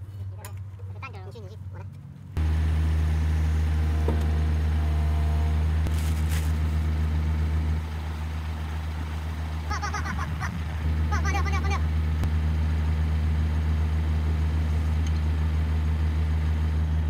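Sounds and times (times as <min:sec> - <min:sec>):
heavy diesel engine idling: 0:02.3 - 0:17.0.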